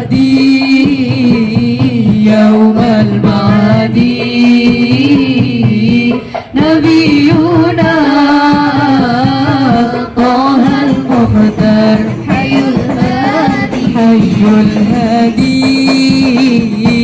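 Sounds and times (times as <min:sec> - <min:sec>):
percussion accompaniment: 0:00.0 - 0:17.0
woman singing devotional song: 0:00.0 - 0:17.0.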